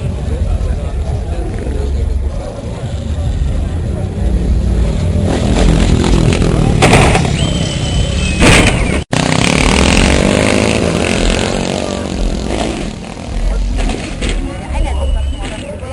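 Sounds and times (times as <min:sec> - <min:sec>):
motorcycle engines revving: 0:00.0 - 0:15.9.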